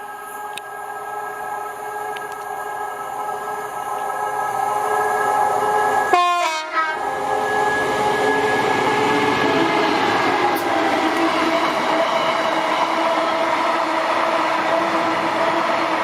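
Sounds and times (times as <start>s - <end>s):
train running past: 0.0s - 16.0s.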